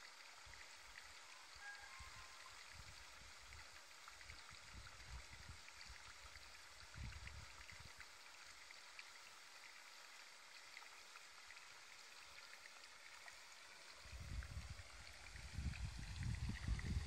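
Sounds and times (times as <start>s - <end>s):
light steady hiss: 0.0s - 17.0s.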